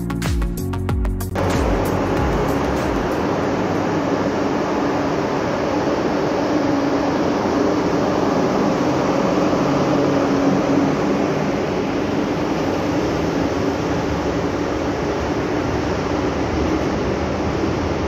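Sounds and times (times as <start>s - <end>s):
electric locomotive hum: 0.0s - 18.0s.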